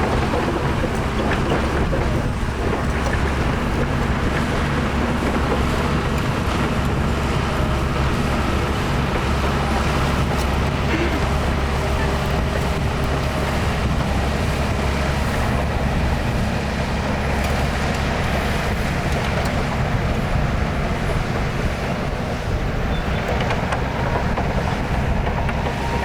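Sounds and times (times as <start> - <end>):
heavy diesel engine droning: 0.0 - 26.0.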